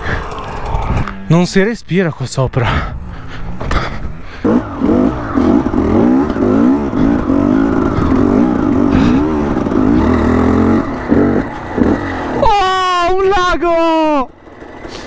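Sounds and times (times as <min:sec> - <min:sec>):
motorcycle engine revving: 0:00.0 - 0:01.7, 0:02.8 - 0:15.0.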